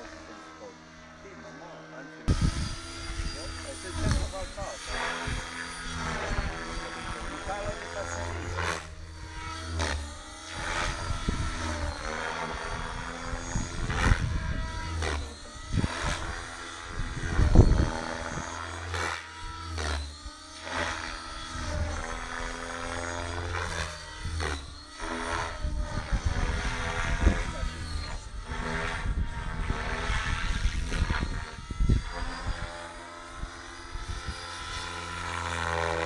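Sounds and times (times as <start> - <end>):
rc helicopter motor whine: 0.0 - 36.0.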